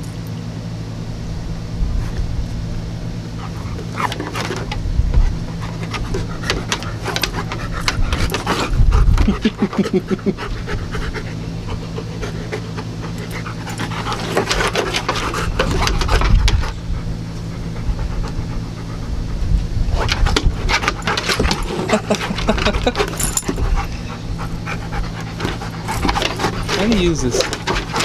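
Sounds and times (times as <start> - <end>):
dog panting hard: 5.2 - 28.0.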